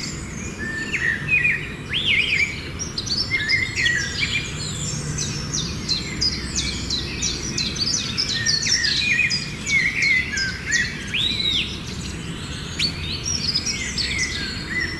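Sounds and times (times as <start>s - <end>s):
birds chirping: 0.0s - 14.9s.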